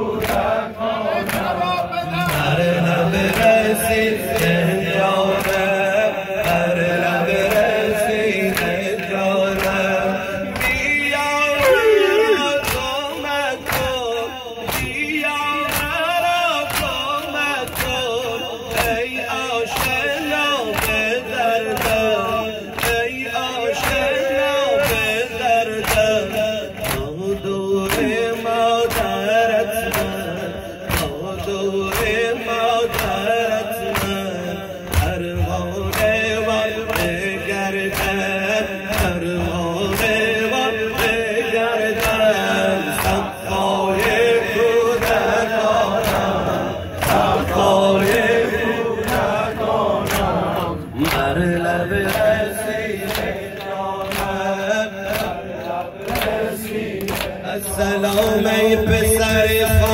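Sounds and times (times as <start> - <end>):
crowd of men chanting: 0.0 - 59.9
man singing into a microphone: 0.0 - 59.9.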